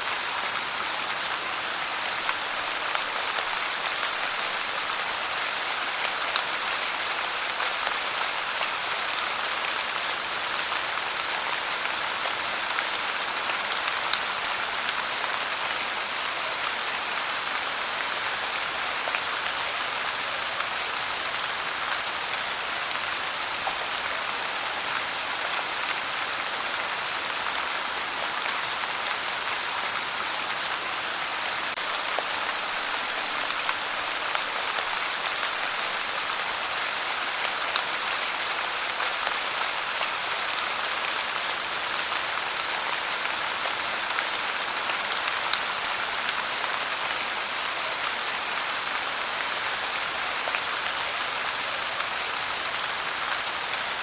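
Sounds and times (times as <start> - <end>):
rain pouring: 0.0 - 54.0.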